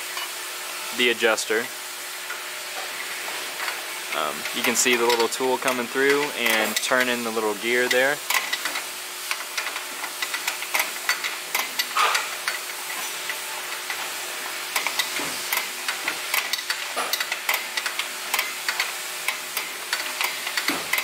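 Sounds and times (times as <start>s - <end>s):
metal clicks and scrapes: 3.0s - 14.1s, 14.7s - 21.0s.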